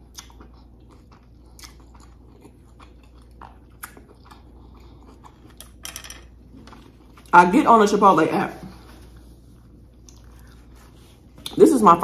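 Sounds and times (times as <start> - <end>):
chewing food: 0.0 - 7.4, 8.8 - 11.6.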